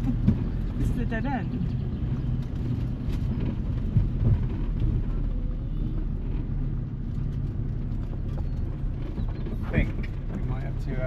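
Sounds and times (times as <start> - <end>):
road rumble: 0.0 - 11.0
van engine droning: 0.0 - 11.0.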